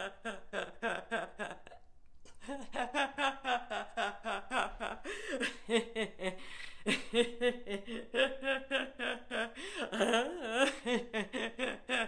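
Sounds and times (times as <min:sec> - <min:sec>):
woman laughing hard: 0:00.0 - 0:01.8, 0:02.4 - 0:12.0.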